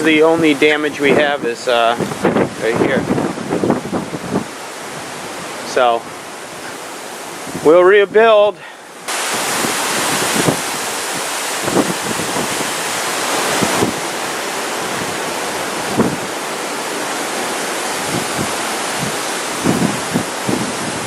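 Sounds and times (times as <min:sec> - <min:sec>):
strong wind gusting: 0:00.0 - 0:21.0.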